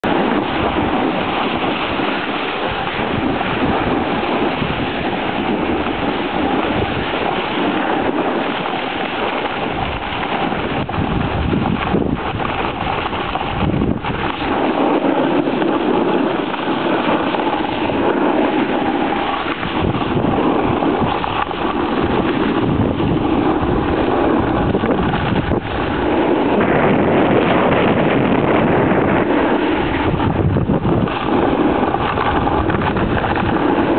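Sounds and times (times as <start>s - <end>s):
snowboard scraping over snow: 0.0s - 33.9s
wind rushing over microphone: 0.0s - 33.9s.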